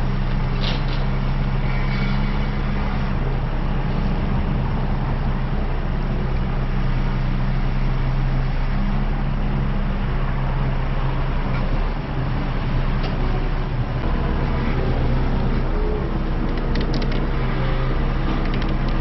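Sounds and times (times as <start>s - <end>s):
heavy vehicle engine humming: 0.0s - 19.0s.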